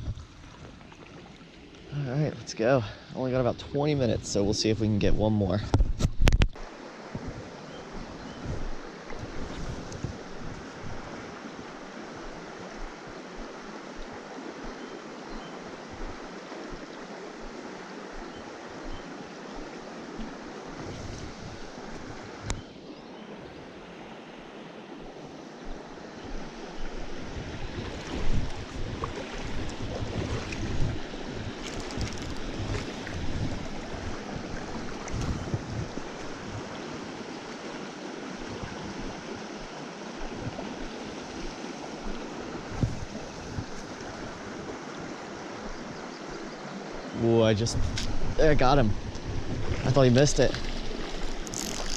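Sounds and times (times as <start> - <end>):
wind rumble on microphone: 0.0 - 1.1, 3.4 - 22.7, 25.0 - 37.7, 38.3 - 46.1, 47.6 - 51.9
creek running: 0.0 - 51.9.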